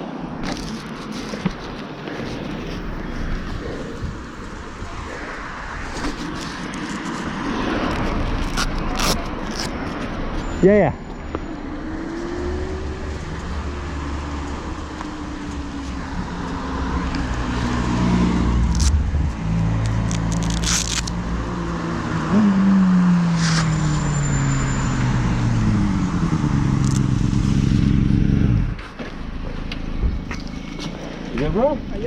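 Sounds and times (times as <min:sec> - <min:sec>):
vehicles passing by: 0:00.0 - 0:32.0.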